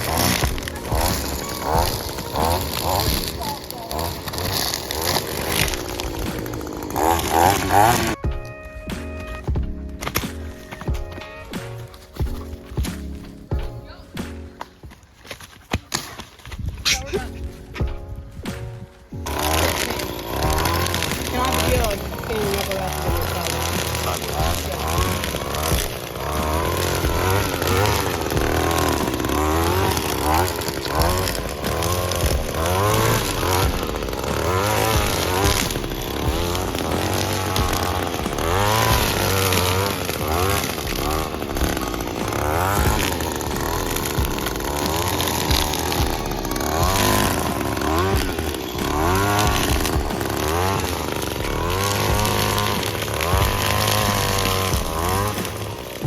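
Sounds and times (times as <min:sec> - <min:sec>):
string trimmer engine revving: 0:00.0 - 0:08.2, 0:19.2 - 0:56.0.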